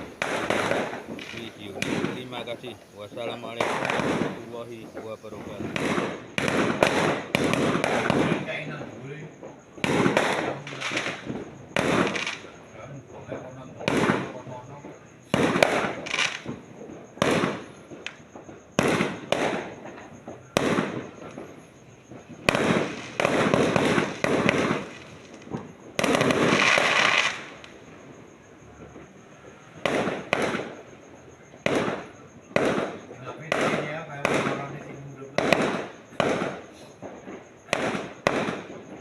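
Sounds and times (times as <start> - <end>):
fireworks banging: 0.0 - 39.0
fireworks crackling: 0.0 - 39.0.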